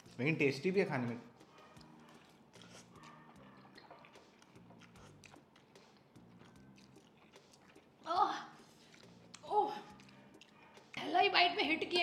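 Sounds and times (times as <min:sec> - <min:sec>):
slurping and chewing noodles: 0:01.4 - 0:11.0.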